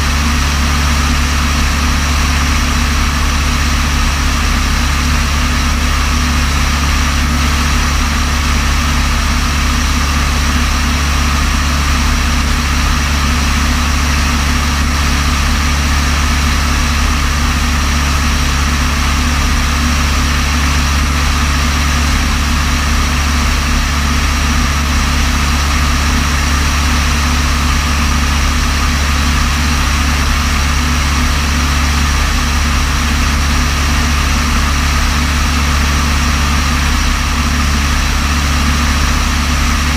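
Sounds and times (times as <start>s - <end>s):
aircraft engine drone in cabin: 0.0s - 39.9s.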